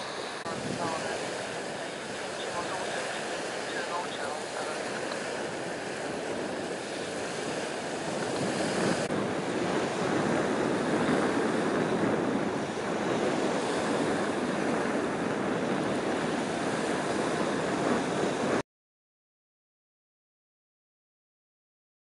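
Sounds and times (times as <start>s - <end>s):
water splashing along shore: 0.0s - 18.6s
wind blowing across microphone: 0.0s - 18.6s.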